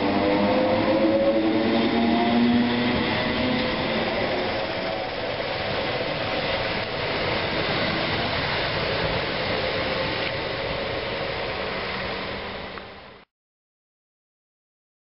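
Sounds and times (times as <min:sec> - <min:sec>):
electric train moving off: 0:00.0 - 0:13.0.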